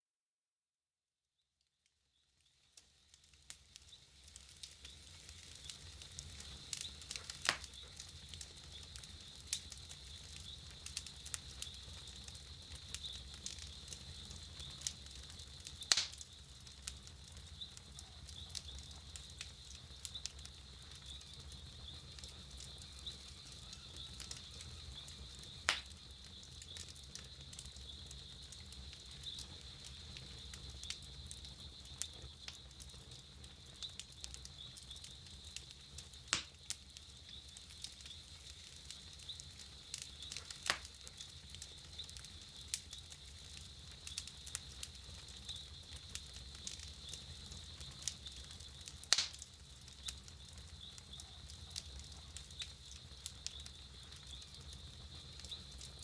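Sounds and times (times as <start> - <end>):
campfire crackling: 2.7 - 56.0.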